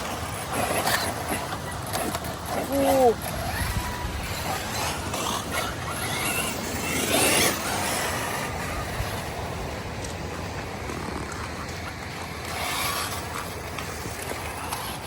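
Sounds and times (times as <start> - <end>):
rc buggy driving: 0.0 - 15.0.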